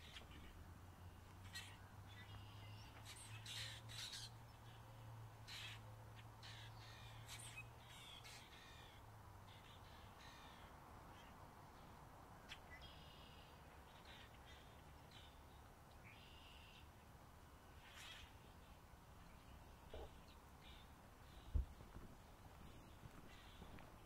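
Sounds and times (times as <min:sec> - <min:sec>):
faint harsh bird calls: 0:01.4 - 0:11.4, 0:12.4 - 0:17.0, 0:17.7 - 0:22.0, 0:22.6 - 0:24.0.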